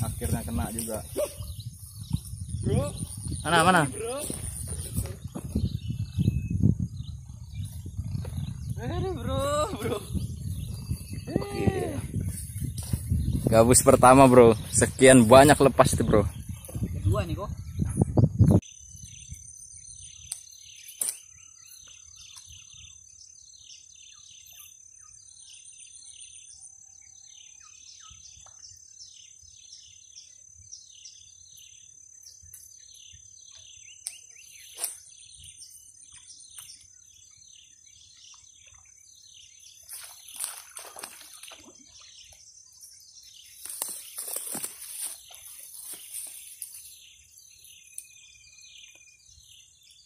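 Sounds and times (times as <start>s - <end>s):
birds chirping: 0.0s - 50.0s.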